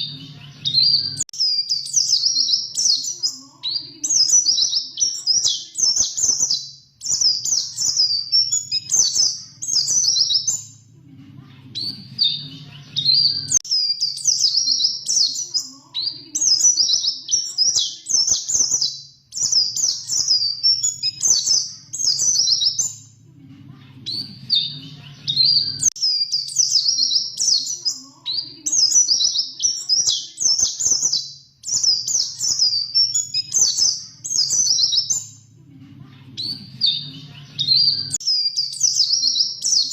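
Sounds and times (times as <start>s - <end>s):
bird high twittering song: 0.0s - 10.8s, 11.8s - 23.2s, 24.0s - 35.5s, 36.4s - 39.9s.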